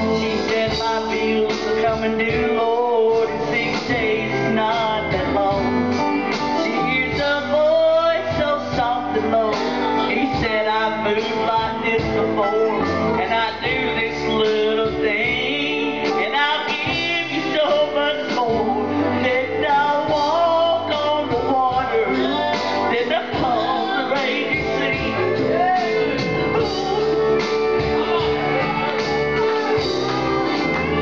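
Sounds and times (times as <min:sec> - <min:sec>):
acoustic guitar: 0:00.0 - 0:31.0
drums: 0:00.0 - 0:31.0
person singing: 0:00.0 - 0:31.0.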